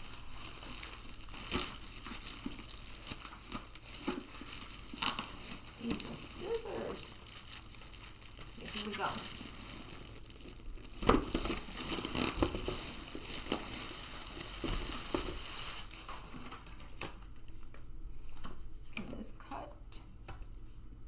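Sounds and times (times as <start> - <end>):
packaging crinkling and rustling: 0.0 - 18.7.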